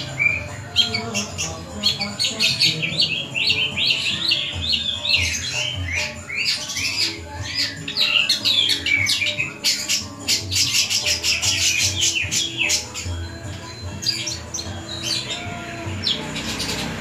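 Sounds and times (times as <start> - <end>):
bird singing chirps and whistles: 0.0 - 16.9.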